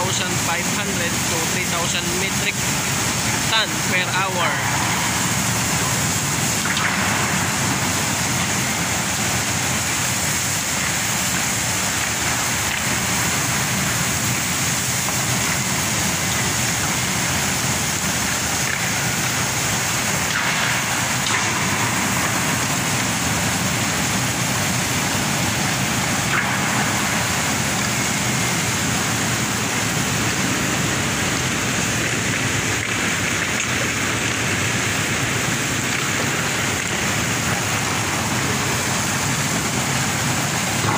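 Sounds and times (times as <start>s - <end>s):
coal pouring into steel hold: 0.0s - 40.9s
low machinery hum: 0.0s - 40.9s.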